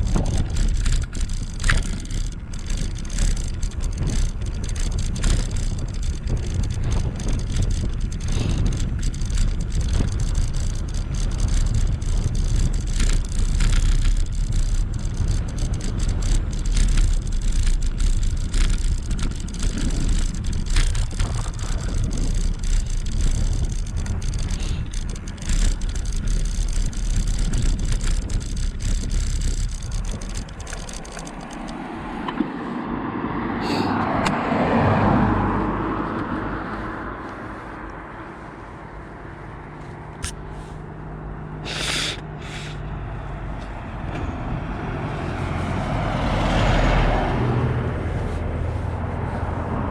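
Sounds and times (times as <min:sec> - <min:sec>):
wind rumbling on microphone: 0:00.0 - 0:41.7, 0:42.8 - 0:49.9
bicycle tyre noise: 0:00.0 - 0:49.9.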